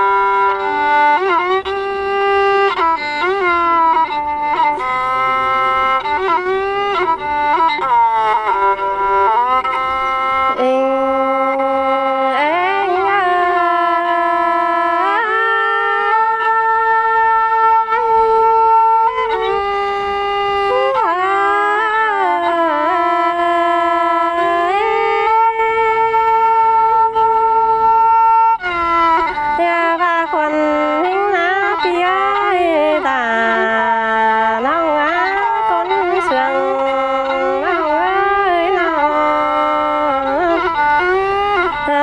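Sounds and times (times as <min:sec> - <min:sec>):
bowed fiddle slow melody: 0:00.0 - 0:42.0.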